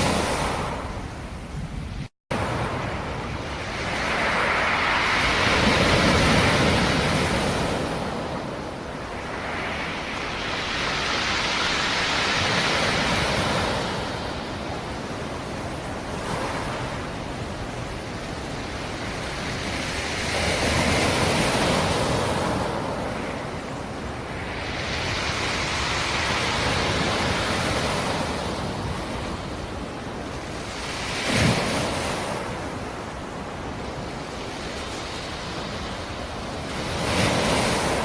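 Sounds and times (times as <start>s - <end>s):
waves breaking: 2.3s - 38.0s.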